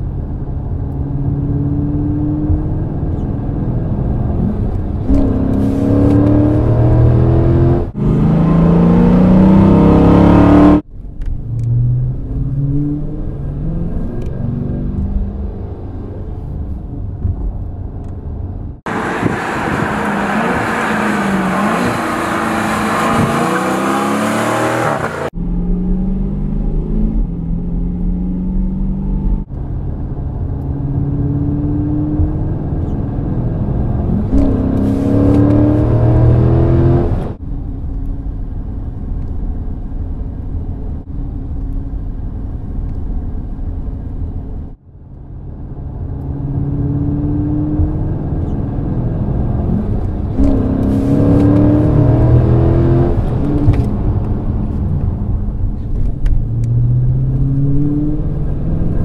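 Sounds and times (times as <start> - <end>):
car engine accelerating: 0.5 - 37.4, 44.6 - 59.0.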